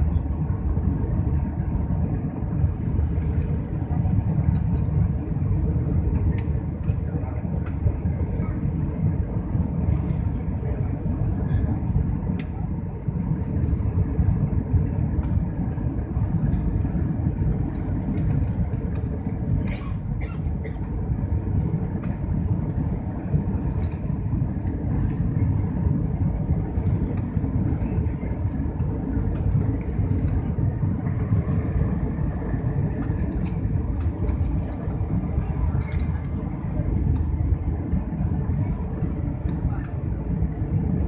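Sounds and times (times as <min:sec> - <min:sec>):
jet engine and airflow noise: 0:00.0 - 0:41.0.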